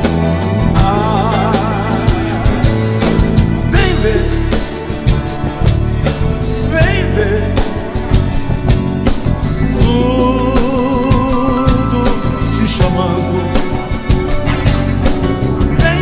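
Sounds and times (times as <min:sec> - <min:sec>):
band playing ballad: 0:00.0 - 0:16.0.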